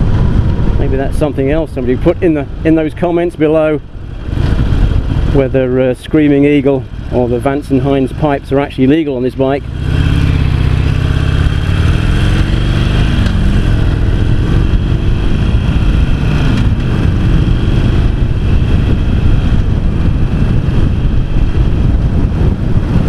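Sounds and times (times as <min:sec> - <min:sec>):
motorcycle engine running: 0:00.0 - 0:23.0
wind rumble on microphone: 0:00.0 - 0:23.0.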